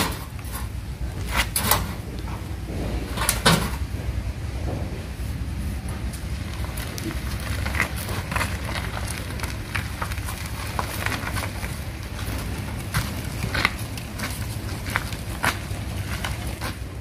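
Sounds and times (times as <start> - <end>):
cart wheels rumbling on dirt: 0.0 - 17.0
hand cart clicking and knocking: 0.0 - 17.0.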